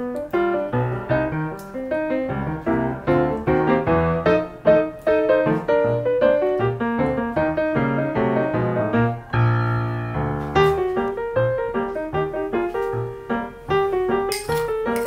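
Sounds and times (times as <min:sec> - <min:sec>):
piano music with steady beat: 0:00.0 - 0:15.0.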